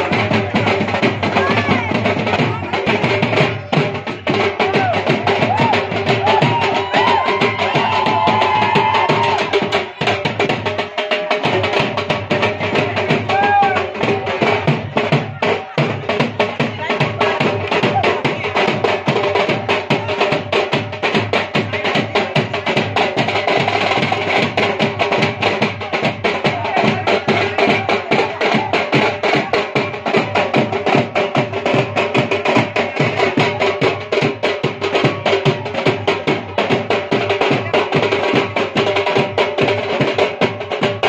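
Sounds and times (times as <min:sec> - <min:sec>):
dhol drum fast beat: 0:00.0 - 0:41.0.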